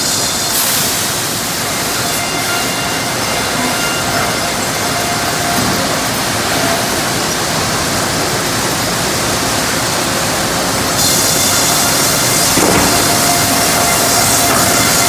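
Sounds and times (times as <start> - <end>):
sawmill machinery rumble: 1.6 - 15.0.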